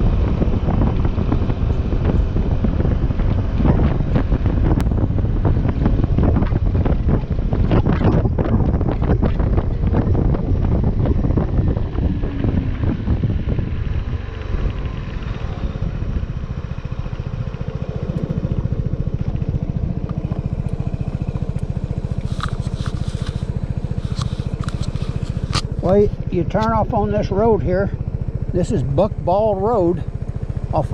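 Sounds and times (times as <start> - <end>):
scooter engine running: 0.0 - 30.9
wind rush on microphone: 0.0 - 30.9.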